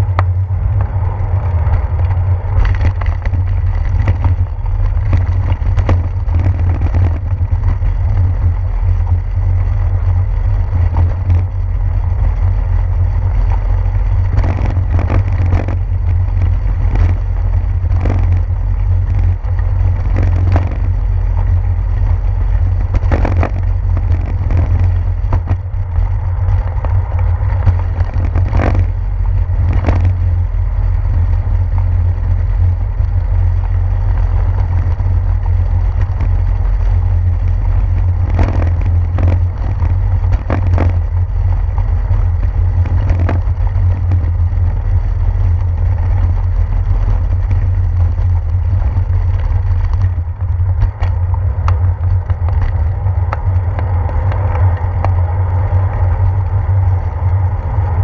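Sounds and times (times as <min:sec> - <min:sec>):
bicycle rattling over bricks: 0:00.0 - 0:58.0
wind and vibration rumble: 0:00.0 - 0:58.0.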